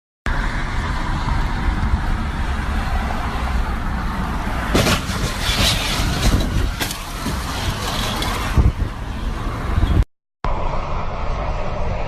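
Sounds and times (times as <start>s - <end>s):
road vehicle rumble: 0.3s - 12.0s.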